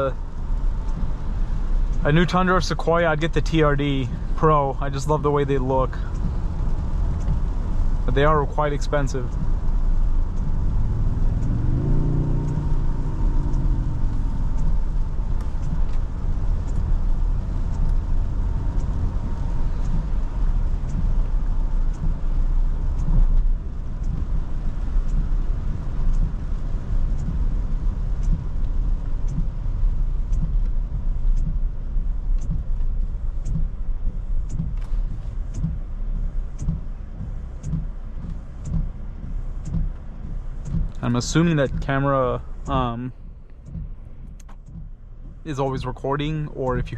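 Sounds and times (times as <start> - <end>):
car engine note rising and falling: 0.0 - 46.9
road and tyre rumble: 0.0 - 46.9.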